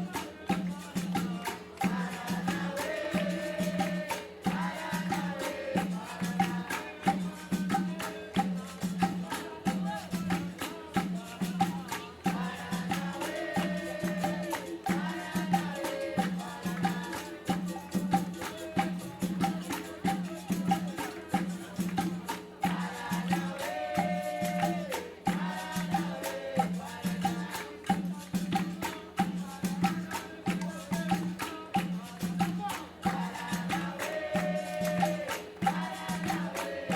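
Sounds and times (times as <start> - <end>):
rattle and hand drum percussion: 0.0 - 36.9.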